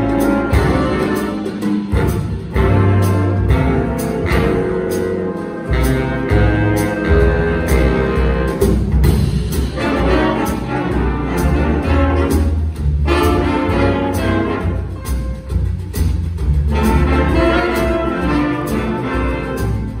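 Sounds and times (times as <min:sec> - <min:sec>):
jazz big band playing: 0:00.0 - 0:20.0.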